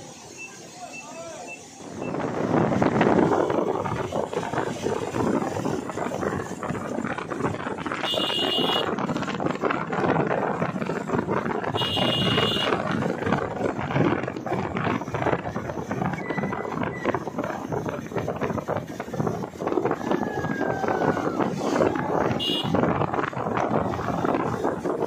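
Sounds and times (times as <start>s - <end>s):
motorcycle engines running: 1.8s - 25.0s
wind rushing over microphone: 1.8s - 25.0s.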